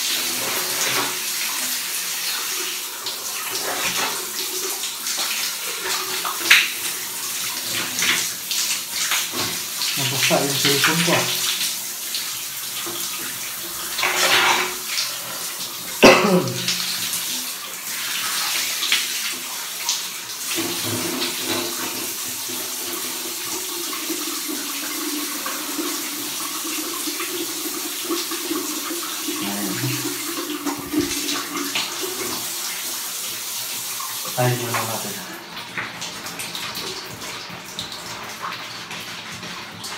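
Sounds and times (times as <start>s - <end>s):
shower spray on tiled floor: 0.0s - 26.3s, 28.1s - 37.5s.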